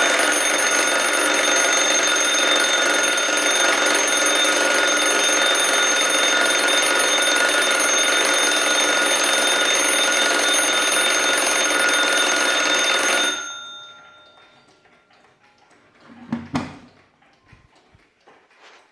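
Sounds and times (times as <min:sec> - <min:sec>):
clock alarm bell ringing: 0:00.0 - 0:15.4.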